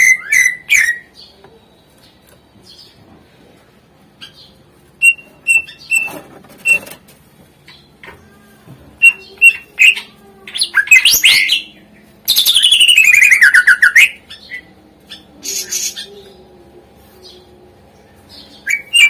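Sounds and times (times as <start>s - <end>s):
bird singing: 0.0s - 3.1s, 4.1s - 7.0s, 9.0s - 19.0s.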